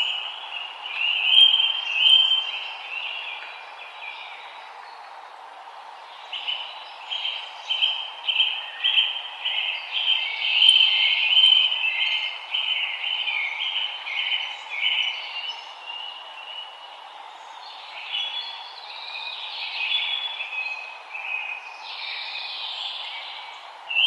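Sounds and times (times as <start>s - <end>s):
background hiss: 0.0s - 24.0s
songbirds singing: 0.0s - 24.0s.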